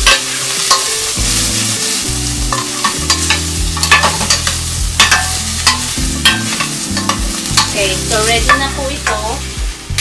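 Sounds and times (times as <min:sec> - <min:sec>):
metal spoon scraping a pan: 0:00.0 - 0:09.4
shrimp sizzling in oil: 0:00.0 - 0:10.0.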